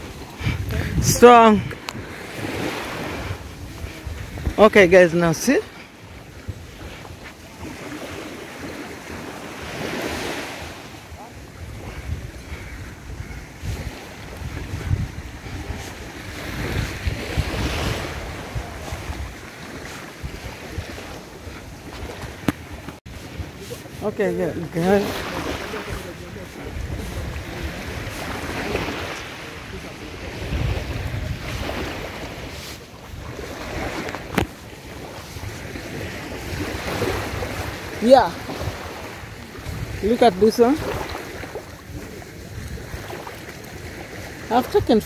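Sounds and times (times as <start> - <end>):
sea waves washing onto beach: 0.0 - 45.0
wind buffeting microphone: 0.0 - 45.0.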